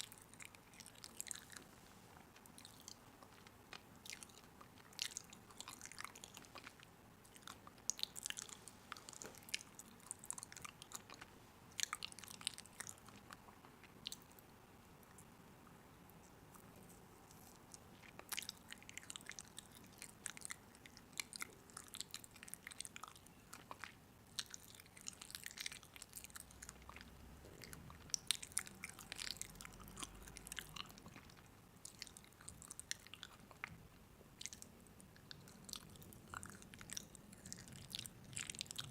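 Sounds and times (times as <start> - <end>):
crunchy food being chewed: 0.0 - 38.9.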